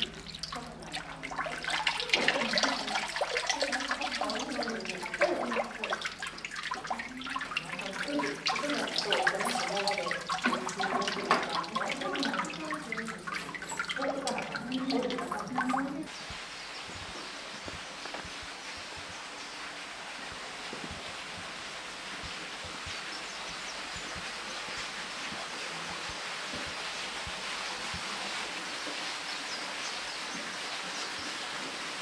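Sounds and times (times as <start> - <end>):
spring water gurgling and splashing: 0.0 - 32.0.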